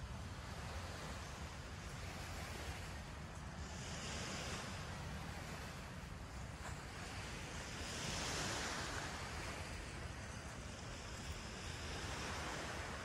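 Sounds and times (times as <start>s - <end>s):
low rumble of wind: 0.0s - 13.0s
surf washing onto shore: 0.0s - 13.0s.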